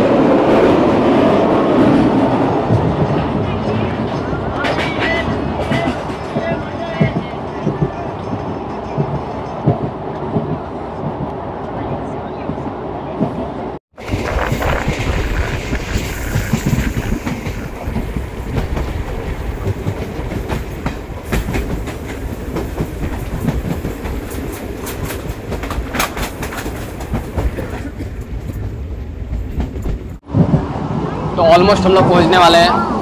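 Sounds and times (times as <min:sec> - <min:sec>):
train rolling rumble: 0:00.0 - 0:33.0.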